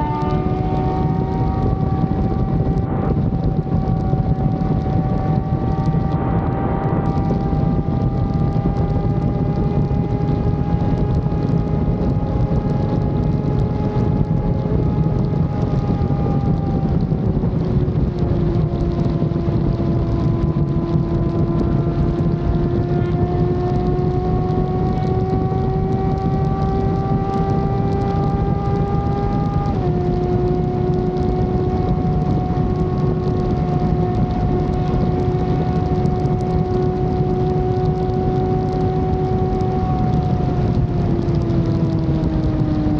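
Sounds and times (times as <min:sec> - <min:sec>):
heavy wind rush: 0:00.0 - 0:42.9
motorcycle engine running: 0:00.0 - 0:42.9.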